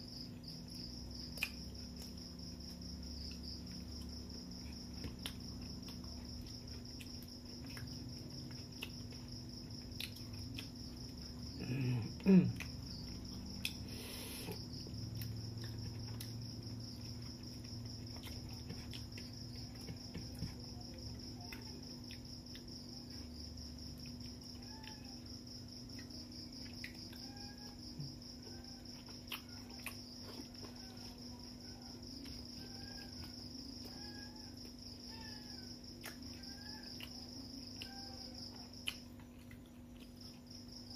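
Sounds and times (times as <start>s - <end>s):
crickets chirring: 0.0s - 40.9s.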